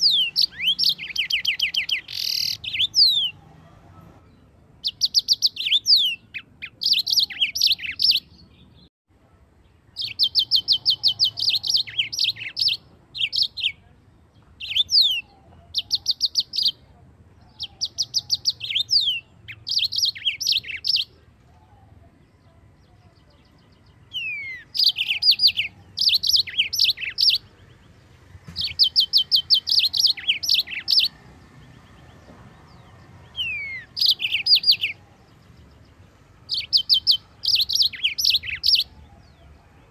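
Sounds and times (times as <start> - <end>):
canary singing: 0.0 - 8.9, 9.9 - 39.9.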